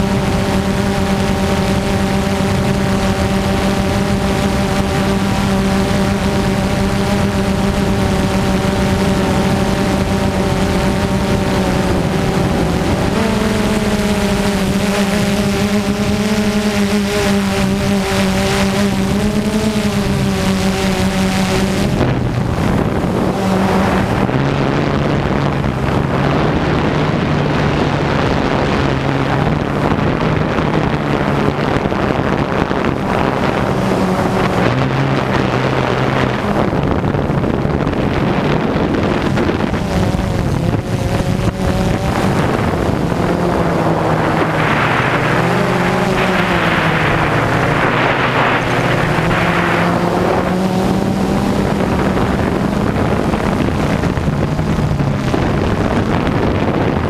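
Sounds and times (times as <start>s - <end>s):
drone propellers humming: 0.0s - 57.0s
wind noise on microphone: 0.0s - 57.0s.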